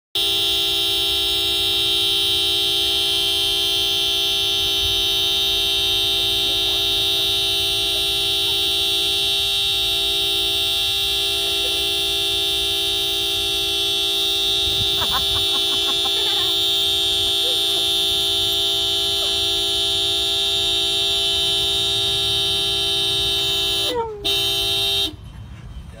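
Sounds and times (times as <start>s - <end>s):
car horn blaring: 0.1s - 25.3s.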